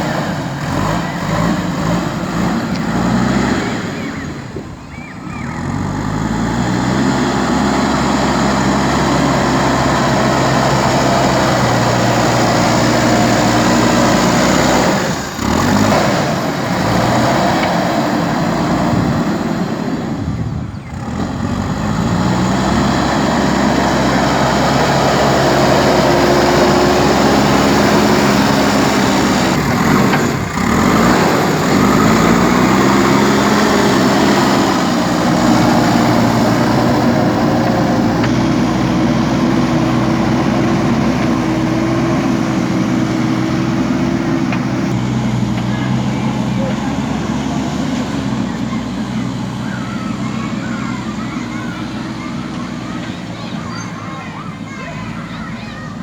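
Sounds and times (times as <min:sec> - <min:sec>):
diesel engine revving under load: 0:00.0 - 0:56.0.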